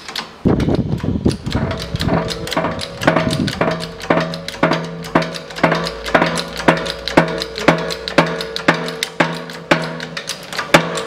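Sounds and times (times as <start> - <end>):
background music with drum beat: 1.6 - 11.0.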